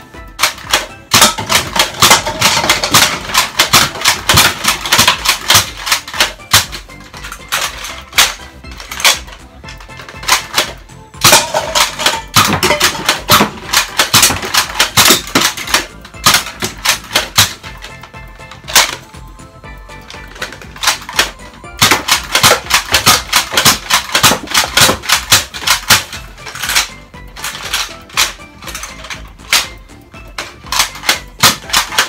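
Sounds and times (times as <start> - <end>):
background music: 0.0 - 32.0
toy blaster firing clacks and pops: 0.4 - 19.1, 20.2 - 32.0.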